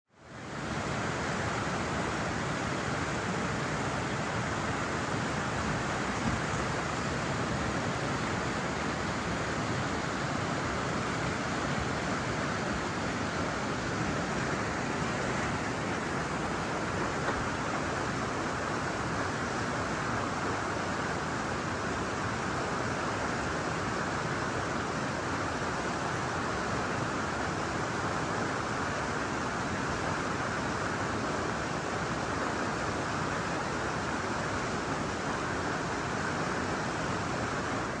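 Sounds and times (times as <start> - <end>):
rapids rushing over boulders: 0.1 - 38.0.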